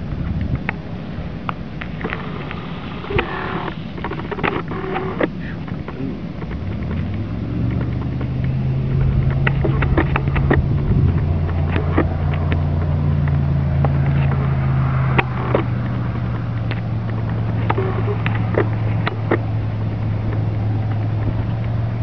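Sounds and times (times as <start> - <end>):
vehicle engine idling: 0.0 - 22.0
small clicks and knocks: 1.4 - 22.0.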